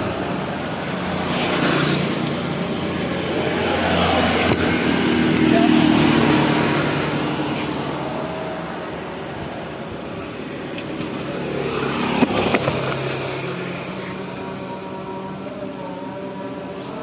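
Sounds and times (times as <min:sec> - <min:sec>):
motor vehicles passing: 0:00.0 - 0:17.0.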